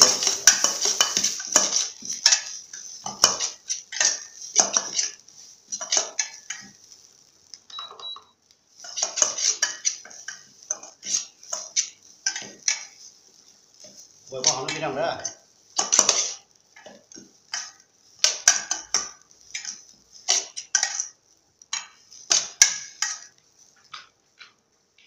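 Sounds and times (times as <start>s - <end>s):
metal utensil scraping a pan: 0.0s - 6.9s, 8.8s - 23.3s.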